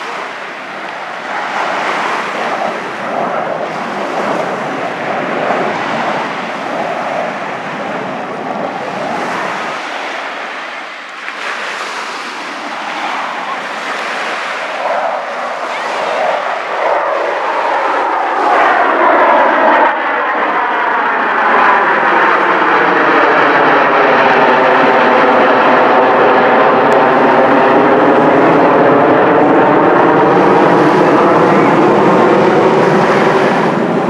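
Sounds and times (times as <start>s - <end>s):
jet aircraft flyover roar: 0.0s - 34.0s.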